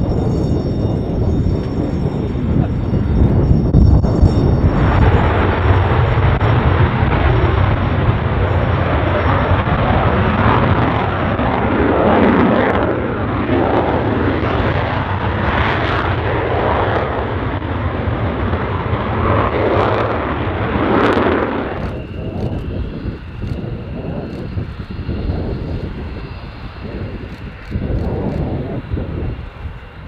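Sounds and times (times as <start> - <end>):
jet taking off: 0.0 - 30.0.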